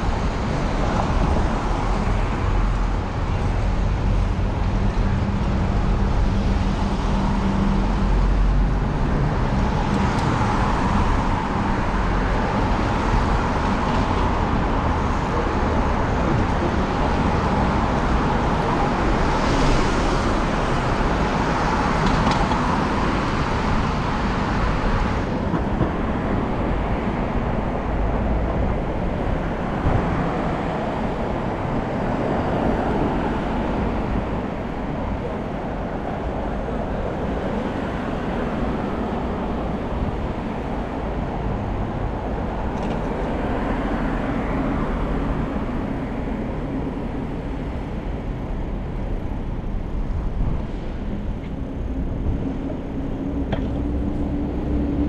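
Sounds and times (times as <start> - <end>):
cars passing: 0.0 - 55.0
wind rumbling on microphone: 0.0 - 55.0.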